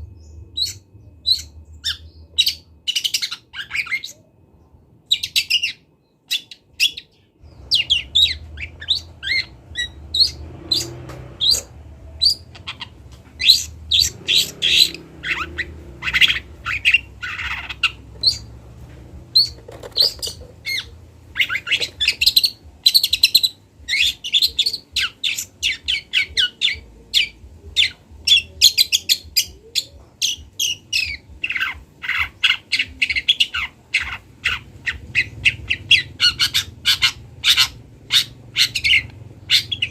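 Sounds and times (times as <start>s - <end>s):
bird chirping and squawking: 0.0s - 4.5s, 5.1s - 39.9s
low steady hum: 0.0s - 39.9s.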